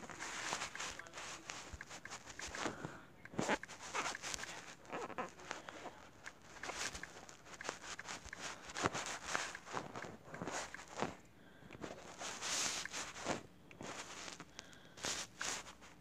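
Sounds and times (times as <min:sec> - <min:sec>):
fingers tapping touchscreen: 0:00.0 - 0:13.3.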